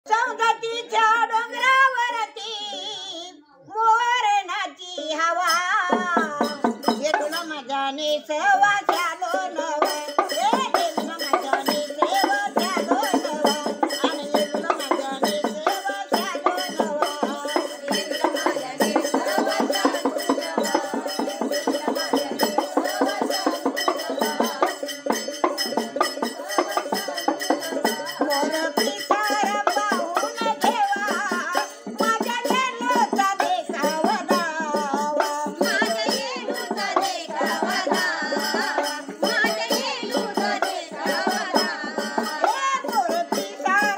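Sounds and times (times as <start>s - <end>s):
women singing folk song: 0.1s - 43.9s
fast rhythmic percussion: 5.0s - 43.9s.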